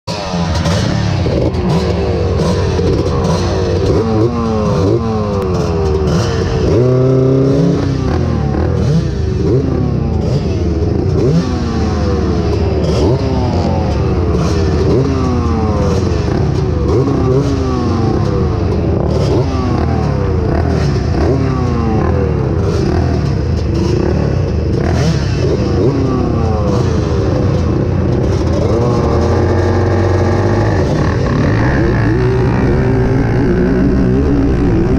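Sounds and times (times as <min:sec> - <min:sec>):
atv engines revving: 0:00.1 - 0:34.9.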